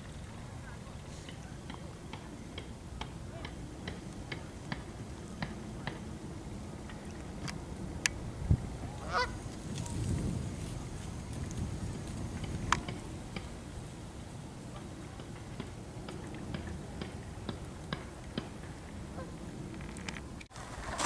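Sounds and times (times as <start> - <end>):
wind rumble on microphone: 3.2 - 21.0.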